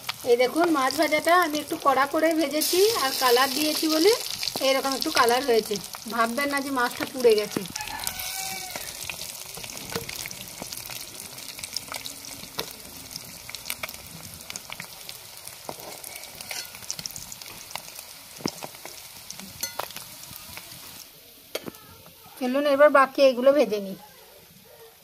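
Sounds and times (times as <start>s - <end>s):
fish sizzling in hot oil: 0.0s - 23.8s.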